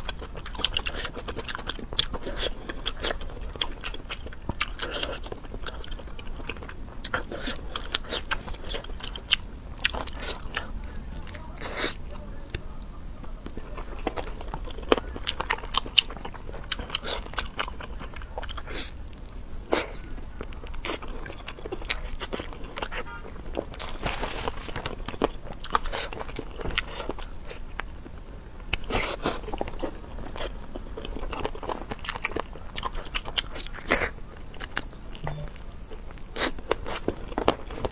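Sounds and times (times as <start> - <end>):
chewing chicken wings: 0.0 - 37.9.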